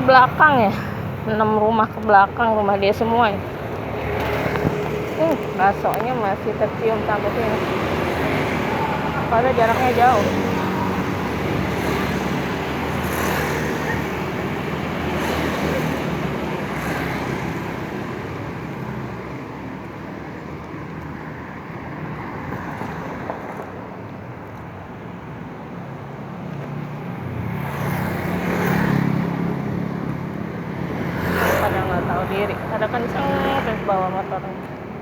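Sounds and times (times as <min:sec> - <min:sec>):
motorbikes and cars passing: 0:00.0 - 0:35.0.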